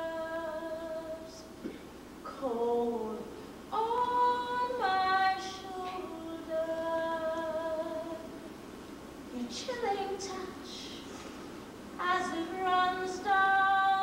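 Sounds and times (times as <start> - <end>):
woman singing: 0.0 - 1.5, 2.3 - 8.4, 9.3 - 11.1, 12.0 - 14.0.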